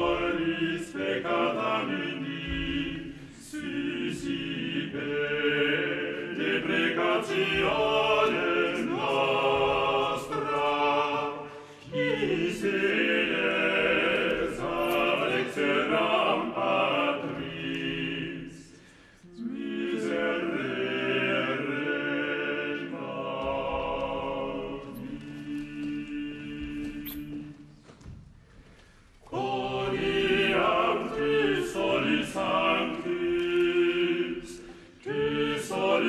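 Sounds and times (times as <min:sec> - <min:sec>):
vocal ensemble singing in harmony: 0:00.0 - 0:28.0, 0:28.8 - 0:36.0.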